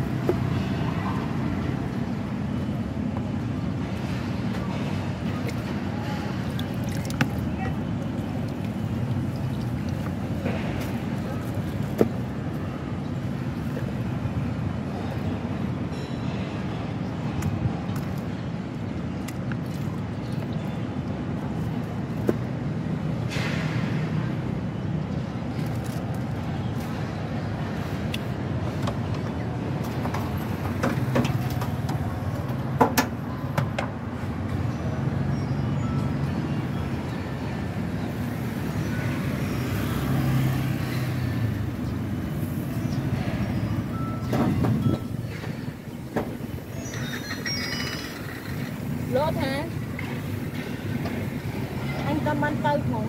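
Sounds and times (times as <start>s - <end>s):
passing vehicle engines rumbling: 0.0s - 53.0s.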